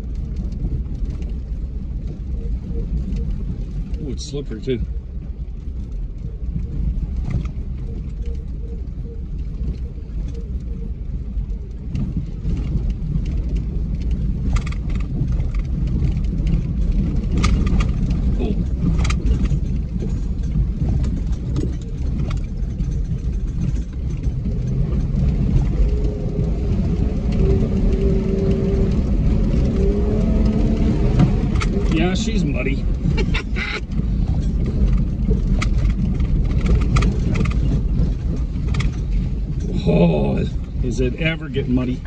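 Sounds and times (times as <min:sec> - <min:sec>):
engine and tyres rumbling: 0:00.0 - 0:42.0.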